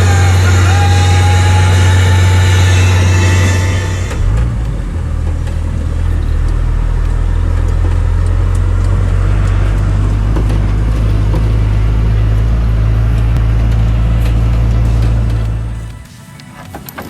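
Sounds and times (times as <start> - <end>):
skid steer engine droning: 0.0 - 17.0.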